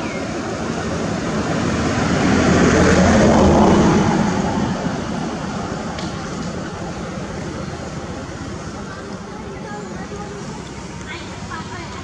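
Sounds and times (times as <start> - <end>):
engine passing by: 0.0 - 12.0.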